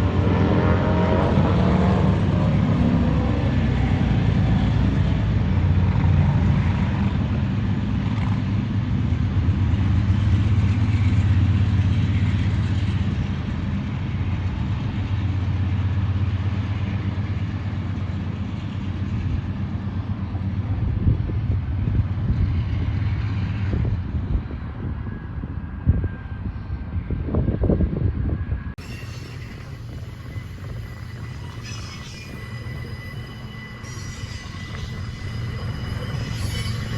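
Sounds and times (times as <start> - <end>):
diesel locomotive engine drone: 0.0 - 36.9.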